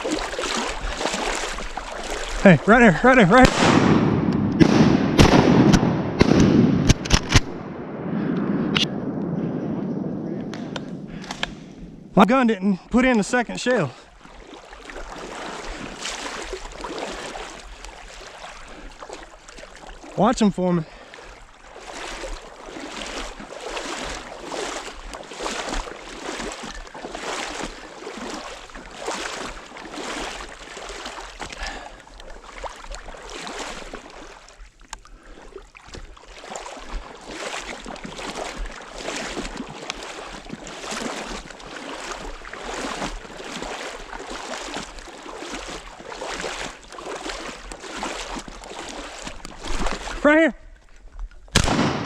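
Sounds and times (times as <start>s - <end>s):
water sloshing and swishing: 0.0s - 51.8s.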